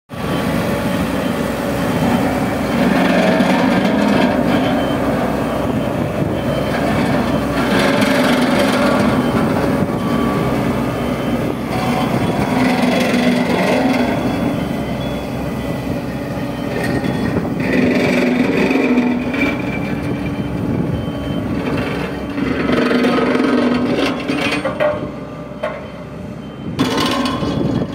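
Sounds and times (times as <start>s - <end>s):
diesel engine running: 0.1s - 27.9s.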